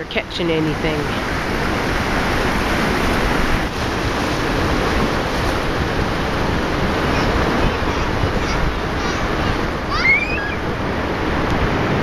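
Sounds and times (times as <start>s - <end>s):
sea surf breaking: 0.0s - 12.0s
wind on microphone: 0.0s - 12.0s.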